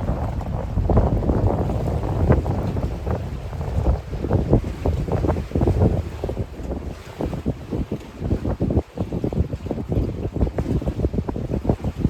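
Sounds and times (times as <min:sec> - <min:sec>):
waves splashing against shore: 0:00.0 - 0:11.0
wind buffeting microphone: 0:00.0 - 0:12.0.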